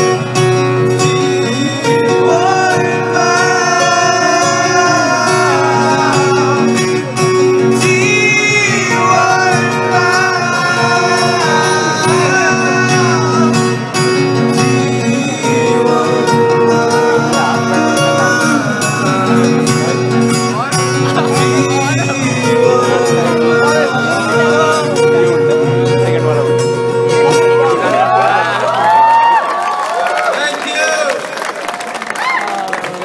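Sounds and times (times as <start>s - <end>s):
man singing: 0.0s - 28.3s
acoustic guitars playing: 0.0s - 29.9s.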